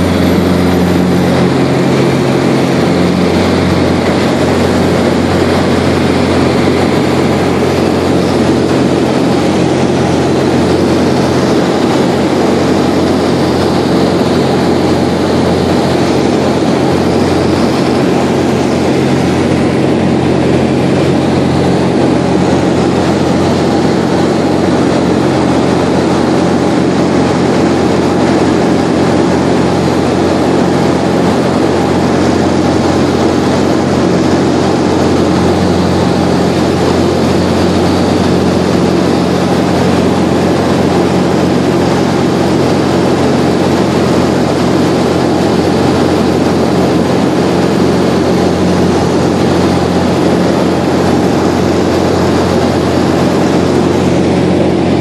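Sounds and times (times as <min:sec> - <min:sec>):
propeller aircraft engine droning: 0:00.0 - 0:55.0
rush of air noise: 0:00.0 - 0:55.0.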